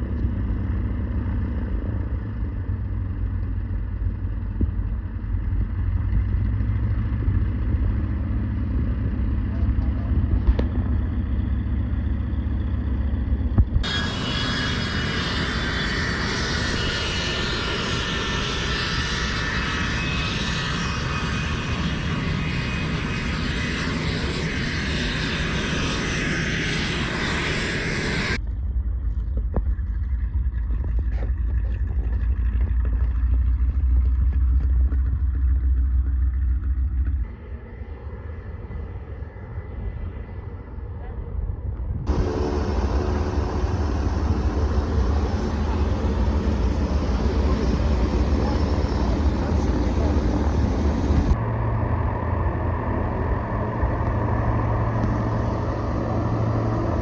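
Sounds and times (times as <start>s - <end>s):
aircraft engines running: 0.0s - 57.0s.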